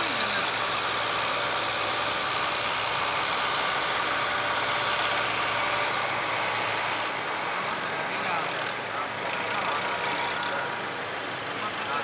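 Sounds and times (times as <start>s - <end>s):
machinery hum with whine: 0.0s - 12.0s.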